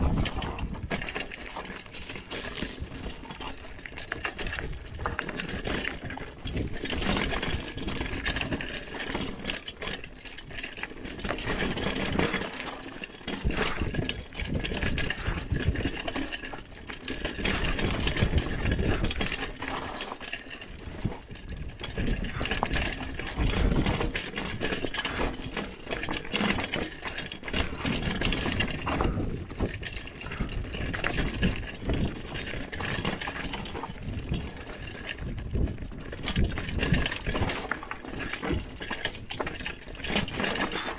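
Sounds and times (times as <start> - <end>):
chain and frame clatter: 0.0 - 40.9
rapid irregular clicks: 0.0 - 40.9
tyres rushing on dirt: 0.0 - 40.9.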